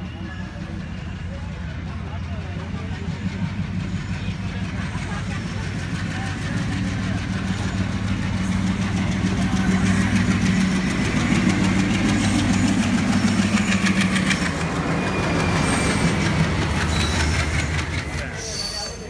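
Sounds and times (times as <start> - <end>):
train diesel engine humming: 0.0 - 19.0.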